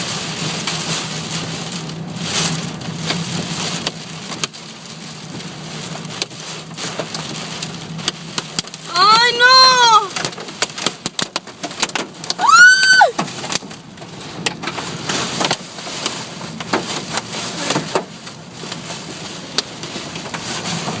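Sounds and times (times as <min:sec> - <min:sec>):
car interior road noise: 0:00.0 - 0:21.0
rain and hail tapping on car: 0:00.0 - 0:21.0.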